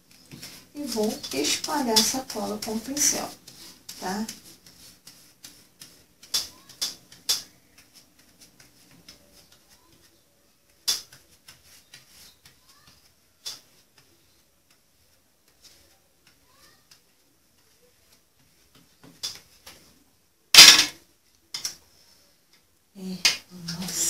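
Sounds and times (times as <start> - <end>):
brush knocking on cardboard drum: 0.0 - 19.9
paintbrush tapping and scraping: 0.0 - 20.0.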